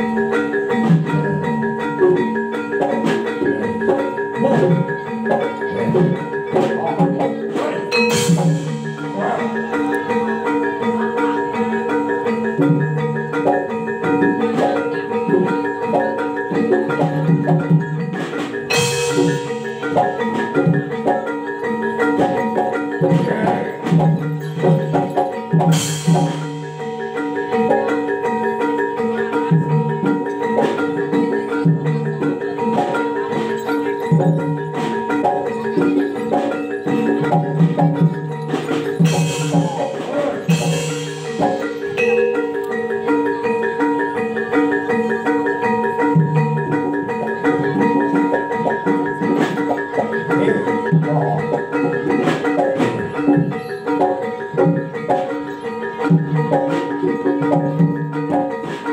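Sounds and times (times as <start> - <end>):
metallophones ringing melodic patterns: 0.0 - 58.9.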